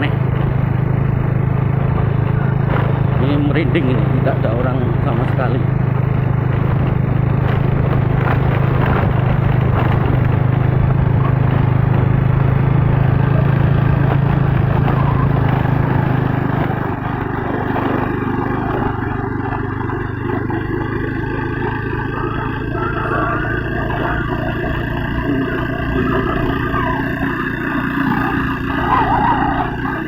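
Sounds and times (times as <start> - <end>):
road noise: 0.0 - 30.0
vehicle engine running: 0.0 - 30.0
wind noise: 0.0 - 30.0.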